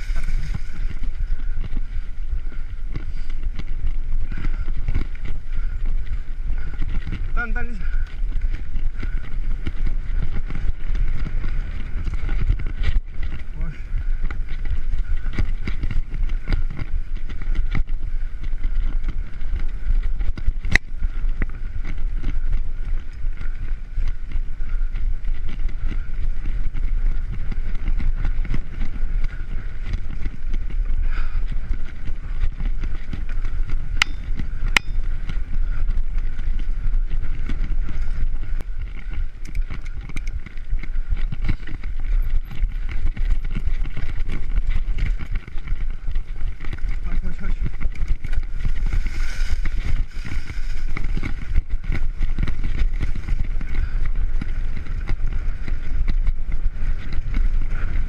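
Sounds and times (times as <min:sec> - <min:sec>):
bike rattling over bumps: 0:00.0 - 0:58.0
wind rumble on microphone: 0:00.0 - 0:58.0.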